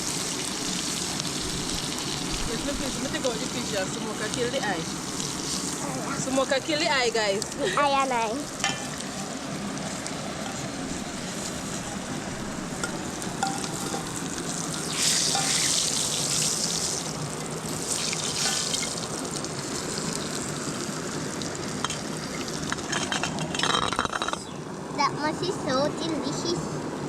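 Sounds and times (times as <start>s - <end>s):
fish sizzling in hot oil: 0.0s - 24.9s.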